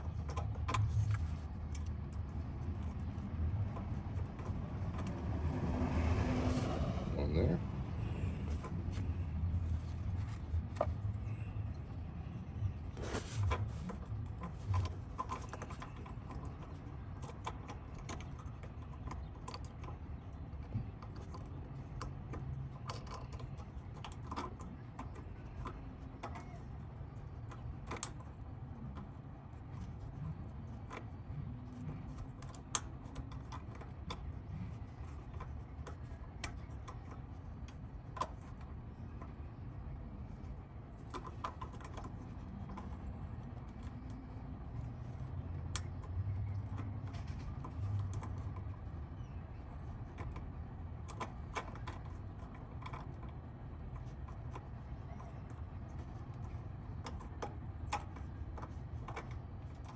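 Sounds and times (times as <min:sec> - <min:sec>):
low steady rumble: 0:00.0 - 0:59.9.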